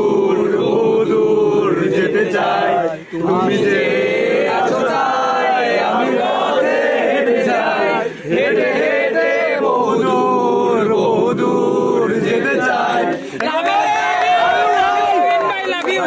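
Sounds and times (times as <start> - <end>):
men singing together: 0.0 - 15.2.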